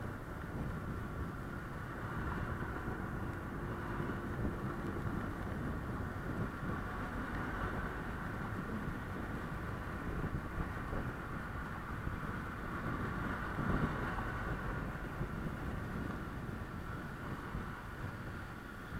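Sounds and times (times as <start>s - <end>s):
road and traffic noise: 0.0s - 18.9s.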